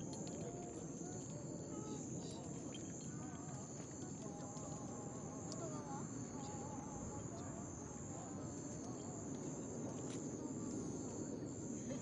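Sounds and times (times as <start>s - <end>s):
murmur of distant voices: 0.0s - 12.0s
night insects trilling: 0.0s - 12.0s.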